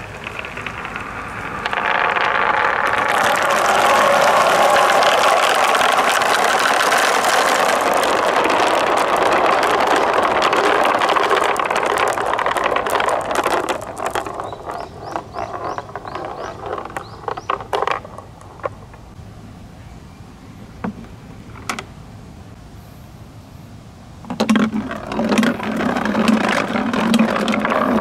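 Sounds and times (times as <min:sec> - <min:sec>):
glass marbles rolling in plastic channels: 0:00.0 - 0:19.1, 0:24.3 - 0:28.0.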